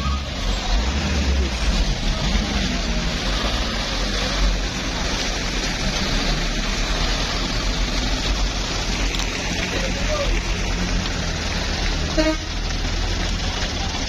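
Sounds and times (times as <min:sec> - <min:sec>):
diesel truck engine under load: 0:00.0 - 0:14.0.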